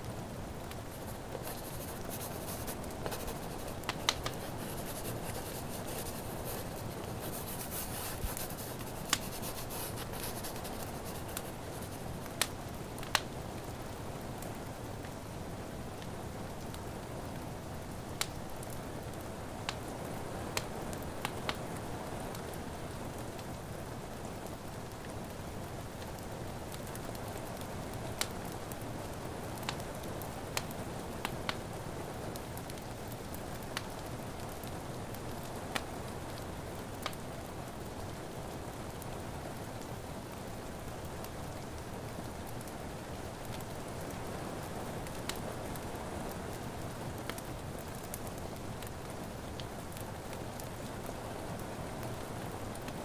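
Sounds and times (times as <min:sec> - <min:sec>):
rain: 0:00.0 - 0:53.0
wood fire crackling: 0:00.0 - 0:53.0.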